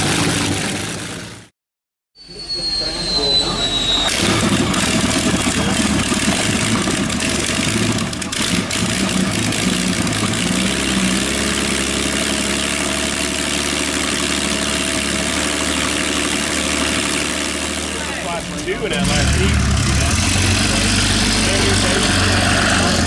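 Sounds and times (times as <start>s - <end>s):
large engine idling: 2.6s - 10.6s, 12.1s - 23.0s.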